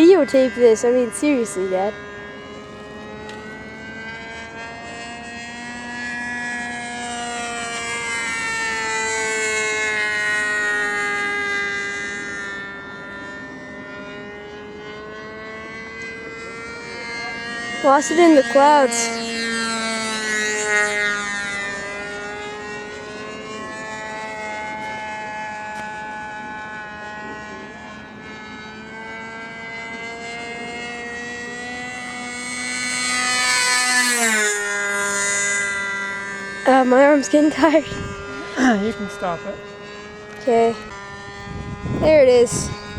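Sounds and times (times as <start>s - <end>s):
model airplane engine buzzing: 0.0s - 42.9s.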